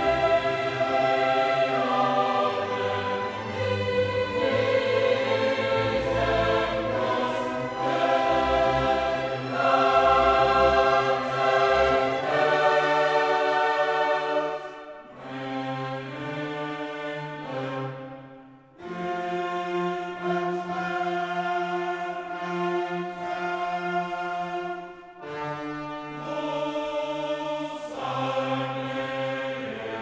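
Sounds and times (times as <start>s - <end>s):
orchestral accompaniment: 0.0s - 28.2s
choir singing held chords: 0.0s - 30.0s.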